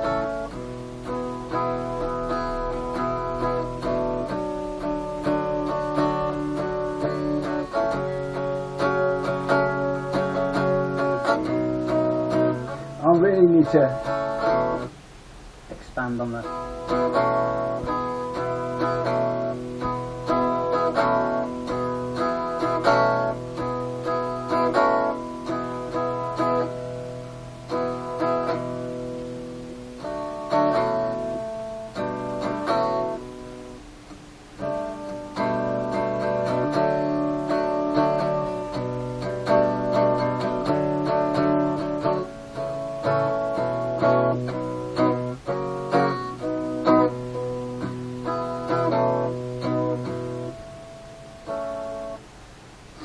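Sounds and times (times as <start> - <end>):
acoustic guitar strummed and picked: 0.0 - 53.0.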